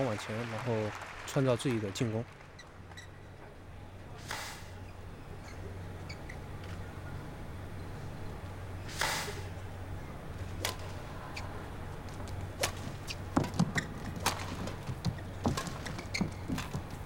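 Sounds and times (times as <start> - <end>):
low arena hum: 0.0 - 17.0.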